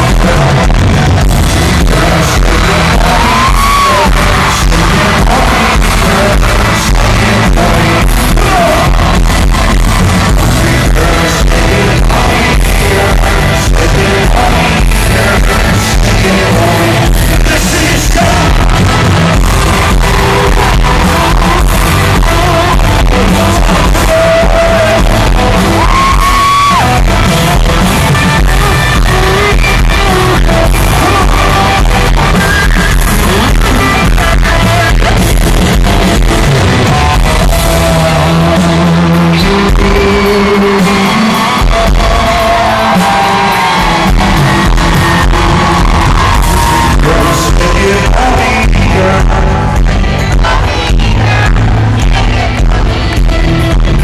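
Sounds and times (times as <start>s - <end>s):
lead singer singing: 0.0s - 53.9s
live band playing amplified music: 0.0s - 54.0s.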